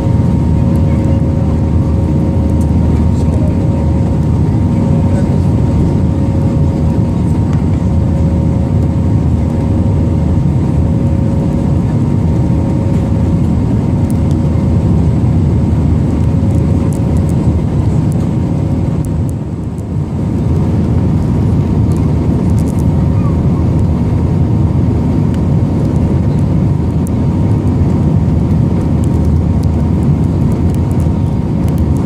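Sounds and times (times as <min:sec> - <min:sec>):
jet engines and rushing air: 0:00.0 - 0:32.0.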